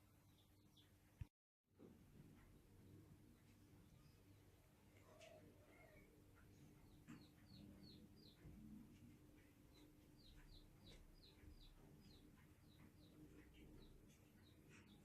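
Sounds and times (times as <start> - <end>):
bird chirping: 0.0 - 1.3, 2.8 - 15.0.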